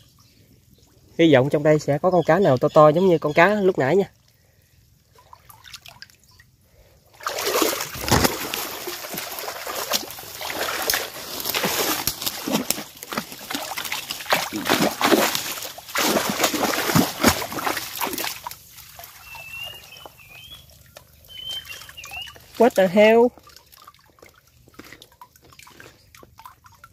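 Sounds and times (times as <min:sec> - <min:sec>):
water trickling: 0:00.0 - 0:26.9
water sloshing and splashing: 0:03.8 - 0:26.9.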